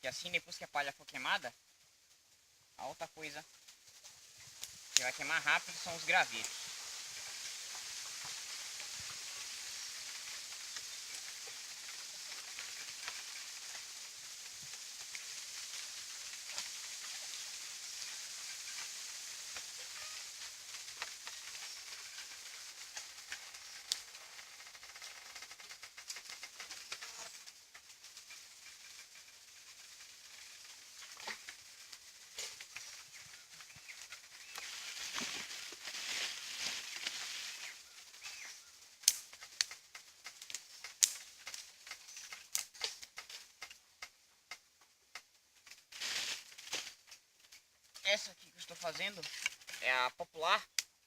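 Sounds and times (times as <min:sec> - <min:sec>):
campfire crackling: 0:00.0 - 0:51.0
fire popping and snapping: 0:01.6 - 0:51.0.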